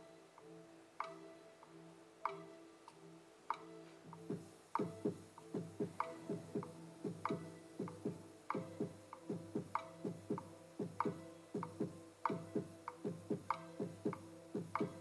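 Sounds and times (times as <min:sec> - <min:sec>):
soft picked instrumental music: 0:00.0 - 0:15.0.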